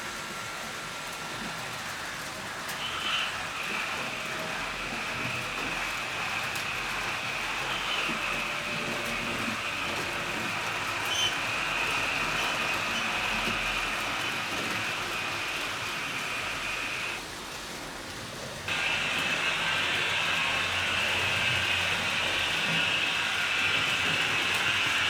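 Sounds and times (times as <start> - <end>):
model train whirring on rails: 0.0 - 25.0.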